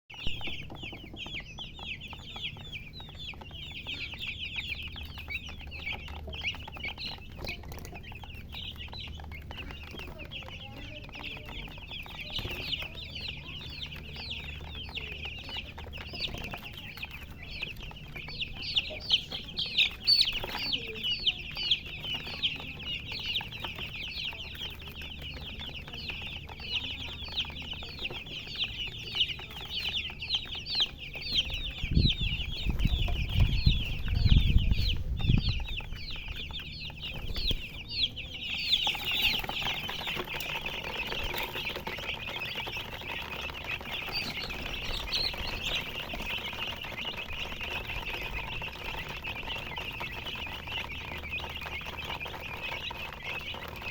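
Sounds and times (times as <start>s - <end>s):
baby chicks peeping: 0.1s - 53.9s
faint low hum: 0.2s - 53.9s.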